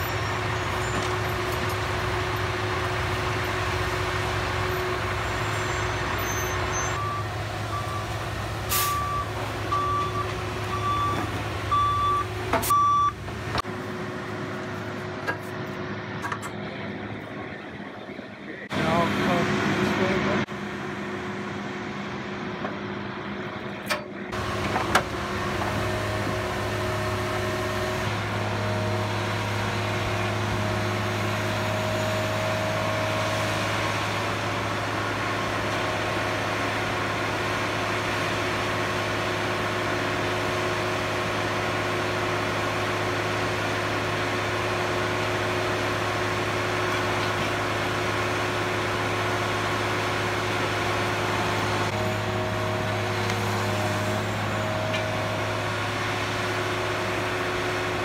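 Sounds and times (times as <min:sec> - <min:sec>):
diesel machinery drone: 0:00.0 - 0:58.0.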